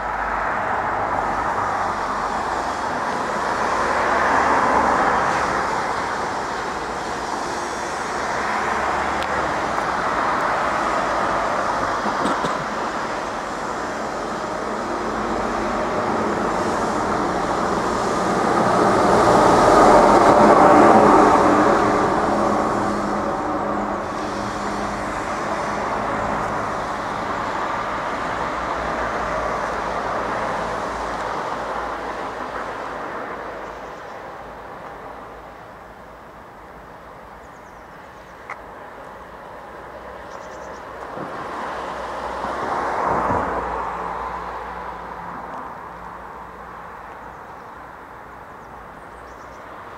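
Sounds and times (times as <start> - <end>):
train rumbling past: 0.0 - 49.9.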